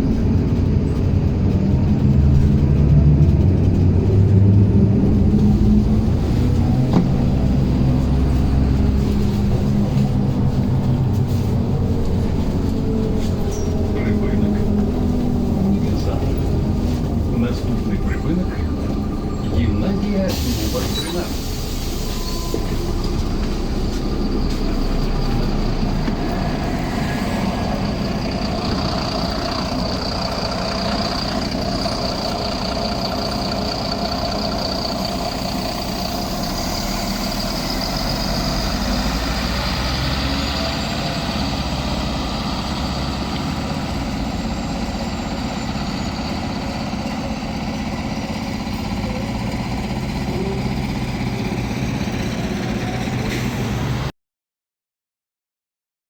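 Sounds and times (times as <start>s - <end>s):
bus engine and road noise: 0.0s - 54.1s.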